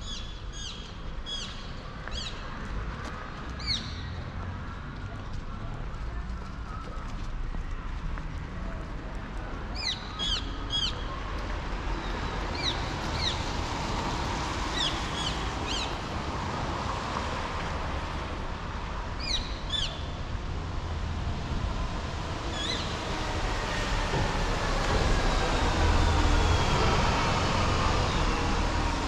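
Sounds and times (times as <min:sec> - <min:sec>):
city traffic hum: 0:00.0 - 0:29.0
bus passing: 0:02.5 - 0:29.0.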